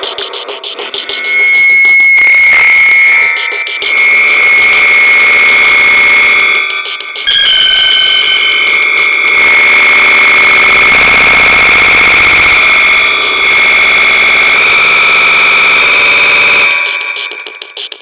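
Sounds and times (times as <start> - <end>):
harsh buzz: 0.0 - 17.6
high electronic alarm tone: 0.0 - 17.8.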